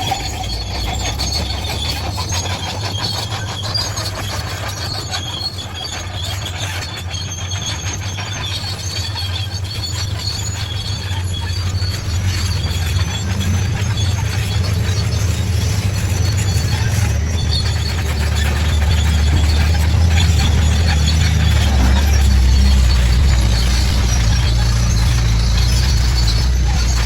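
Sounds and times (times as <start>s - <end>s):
bulldozer diesel engine: 0.0s - 27.0s
steel tracks squealing and clanking: 0.0s - 27.0s.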